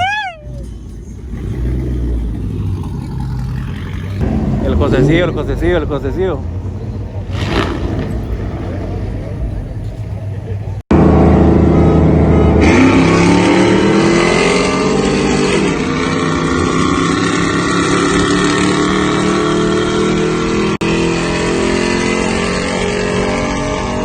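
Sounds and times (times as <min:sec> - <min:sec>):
engines revving in drag race: 0:00.0 - 0:24.0.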